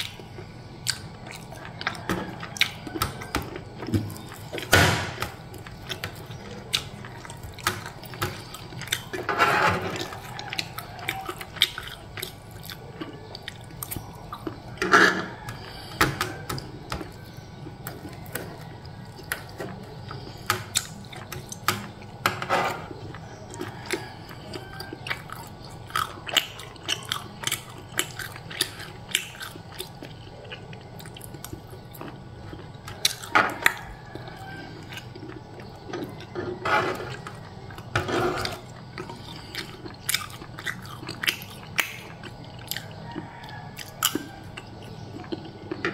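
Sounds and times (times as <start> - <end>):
chewing: 0.0 - 4.7, 5.3 - 45.9.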